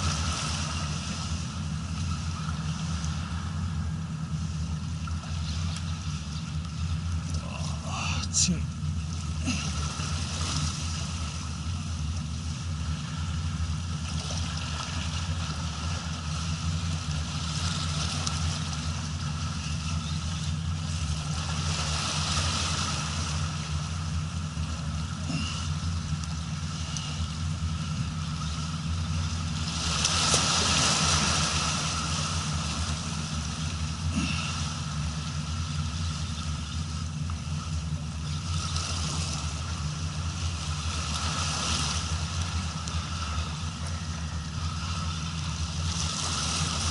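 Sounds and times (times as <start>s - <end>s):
boat engine idling: 0.0s - 46.9s.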